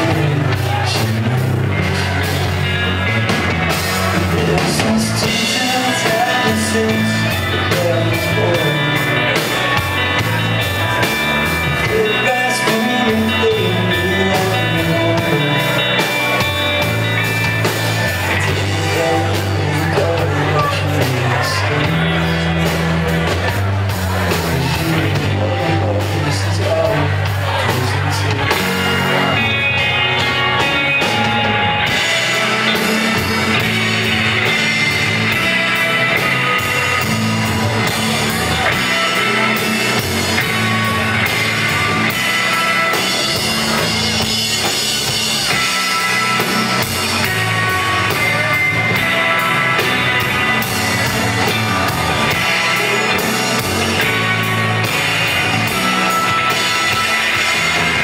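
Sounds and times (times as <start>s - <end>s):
bass guitar: 0.0s - 58.0s
drum kit with cymbals: 0.0s - 58.0s
electric guitars: 0.0s - 58.0s.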